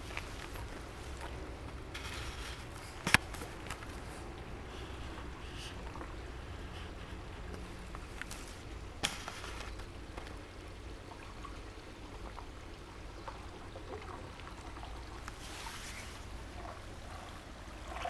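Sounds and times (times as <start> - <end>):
water flowing through stone channel: 0.0 - 18.0.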